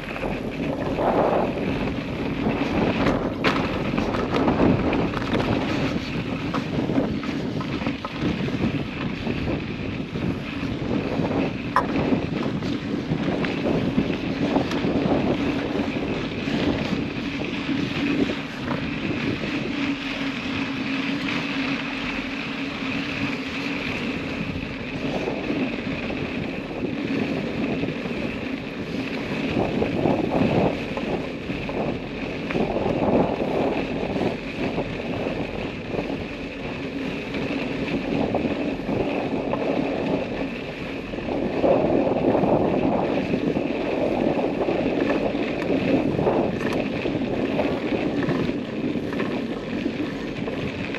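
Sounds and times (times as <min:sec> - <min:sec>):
vehicle engine running: 0:00.0 - 0:50.9
wind on microphone: 0:00.0 - 0:50.9.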